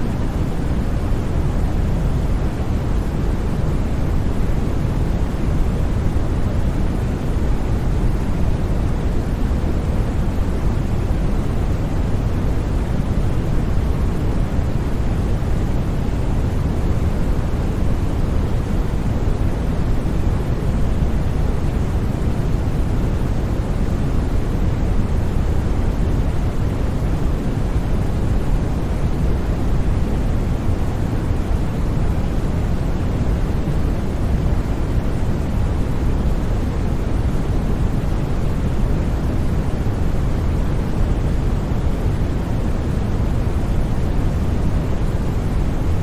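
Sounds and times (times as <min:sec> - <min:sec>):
deep rushing white noise: 0:00.0 - 0:46.0.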